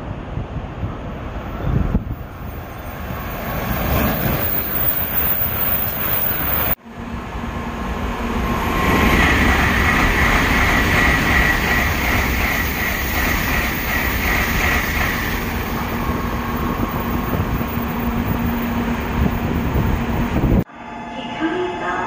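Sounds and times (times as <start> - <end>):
bullet train rushing past: 0.0 - 22.0.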